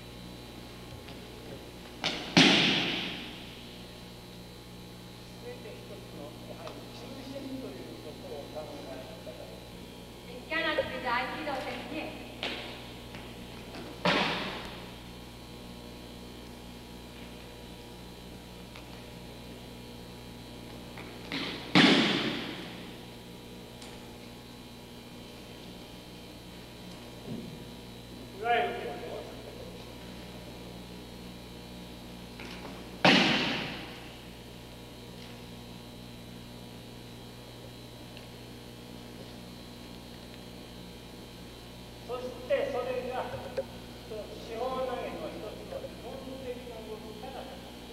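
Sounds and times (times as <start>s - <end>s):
recording hum: 0.0s - 47.9s.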